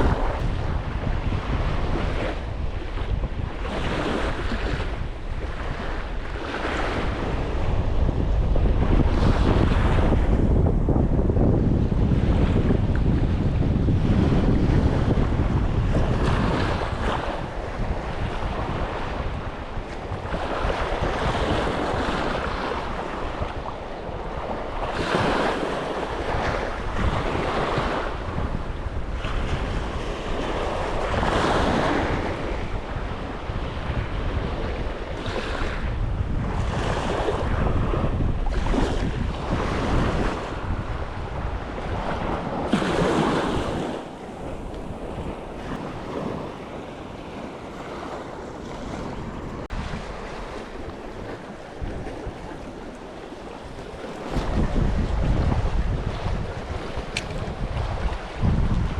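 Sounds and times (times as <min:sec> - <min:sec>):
sea waves washing onto beach: 0:00.0 - 0:58.9
wind buffeting microphone: 0:00.0 - 0:58.9.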